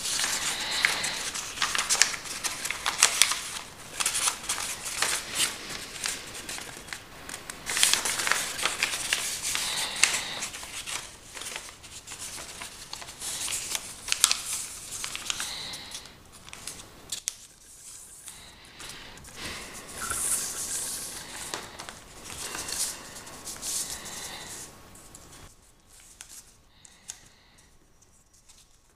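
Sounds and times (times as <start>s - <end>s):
paper rustling and crackling: 0.0s - 28.9s.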